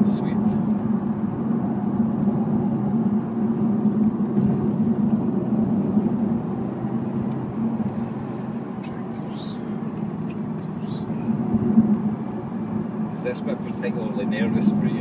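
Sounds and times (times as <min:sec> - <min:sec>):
car engine cruising: 0:00.0 - 0:15.0
road noise: 0:00.0 - 0:15.0.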